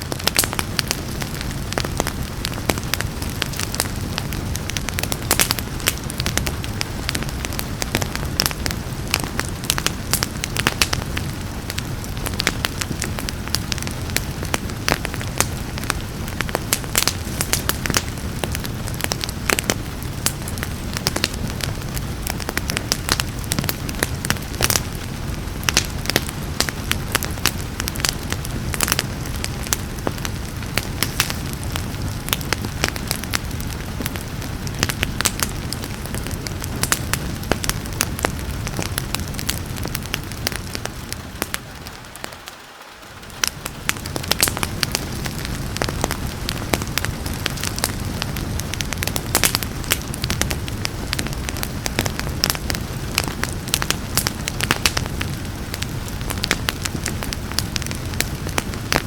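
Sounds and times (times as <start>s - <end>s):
rain hiss: 0.0s - 59.0s
wood fire crackling and popping: 0.0s - 59.0s.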